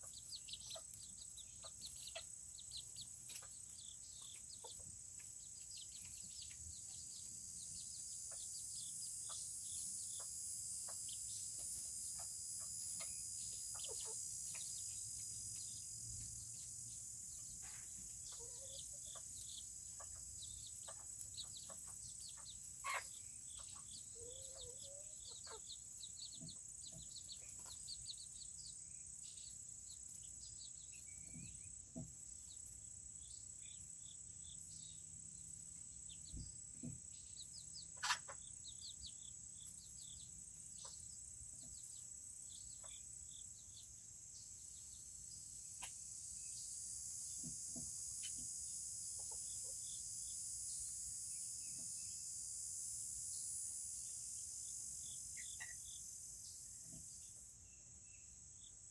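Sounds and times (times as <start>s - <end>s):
chickens clucking and peeping: 0.0s - 58.9s
insects trilling: 0.0s - 58.9s.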